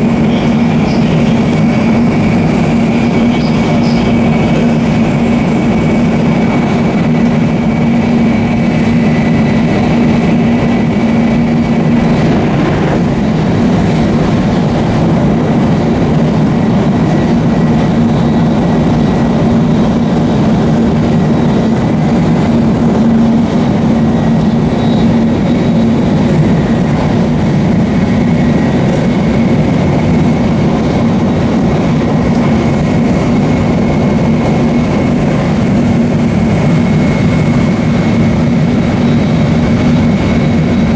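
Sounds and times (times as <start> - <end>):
constant low hum: 0.0 - 40.9
train rail rumble: 0.0 - 40.9.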